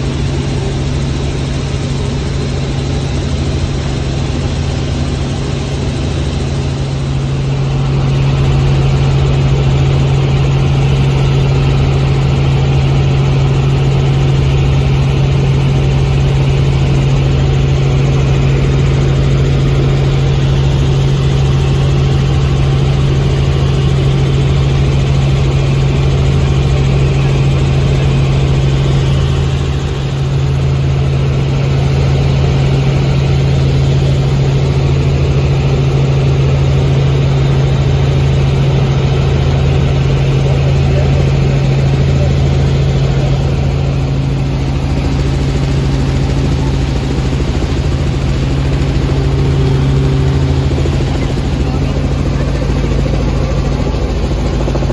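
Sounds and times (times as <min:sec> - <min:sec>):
helicopter droning from cabin: 0:00.0 - 0:54.9.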